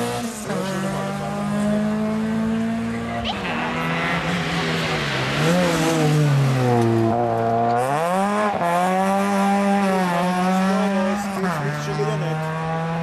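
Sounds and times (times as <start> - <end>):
rally car engine passing: 0.0 - 13.0.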